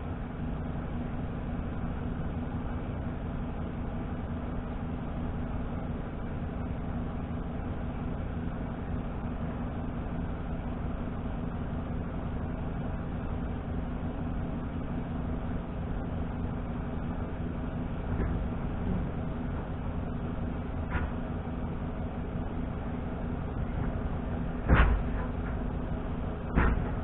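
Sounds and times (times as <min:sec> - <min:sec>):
low engine drone: 0:00.0 - 0:27.0.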